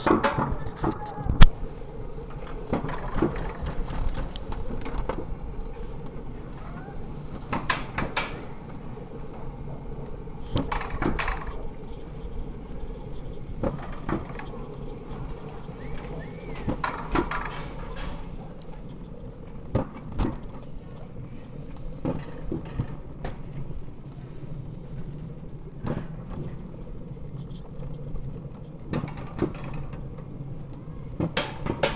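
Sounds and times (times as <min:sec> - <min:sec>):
coaster sled rolling rumble: 0:00.0 - 0:31.9
faint hum: 0:00.0 - 0:31.9.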